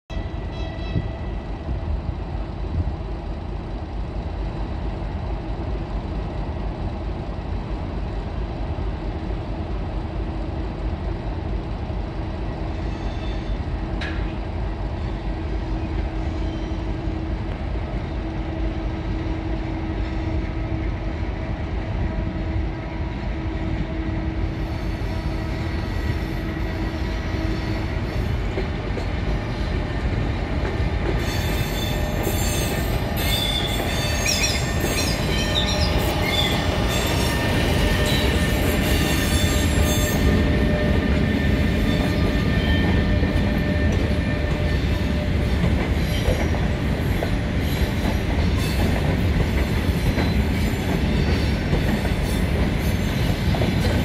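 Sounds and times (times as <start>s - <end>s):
electric locomotive running noise: 0.1s - 54.0s.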